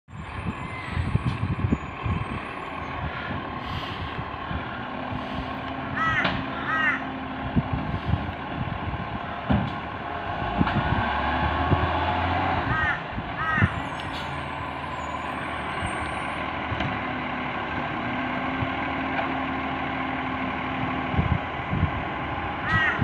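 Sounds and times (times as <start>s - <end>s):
diesel engine rumbling: 0.1s - 23.0s.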